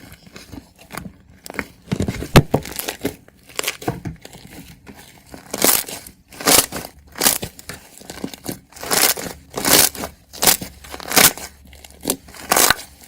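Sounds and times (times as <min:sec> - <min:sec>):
slime crackling and popping: 0:01.4 - 0:13.0.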